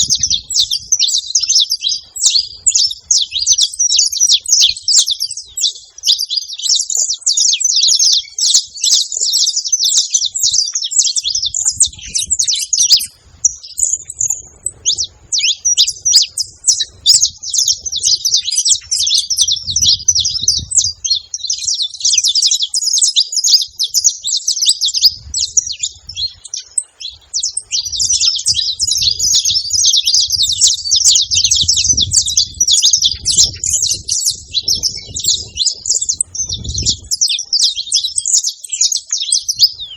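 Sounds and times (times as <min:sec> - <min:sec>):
finch singing rapid high chirps: 0:00.0 - 0:39.9.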